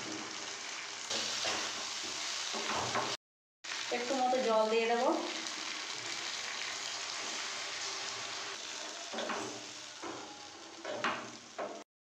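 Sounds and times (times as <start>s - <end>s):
food sizzling in frying pan: 0.0s - 11.8s.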